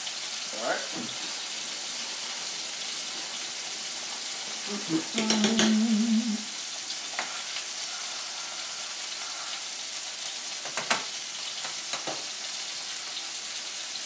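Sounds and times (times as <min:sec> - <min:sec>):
chicken sizzling in skillet: 0:00.0 - 0:14.0.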